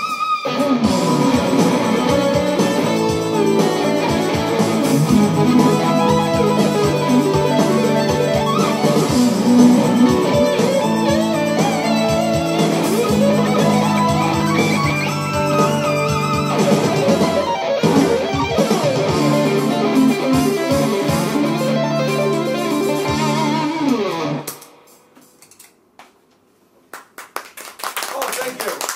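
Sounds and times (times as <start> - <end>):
electric guitar rock lead: 0.0 - 25.0.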